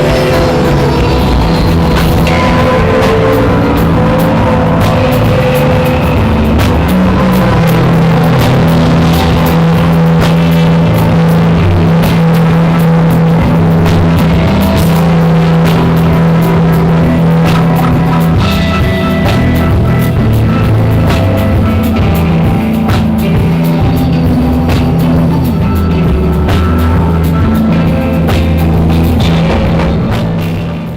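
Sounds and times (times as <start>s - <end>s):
drum kit hits: 0.0s - 30.9s
long held low notes: 0.0s - 30.9s.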